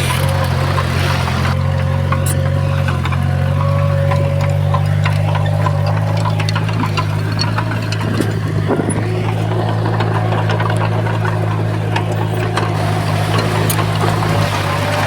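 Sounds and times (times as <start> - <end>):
bulldozer diesel engine running: 0.0 - 15.0
light clanks: 0.0 - 15.0.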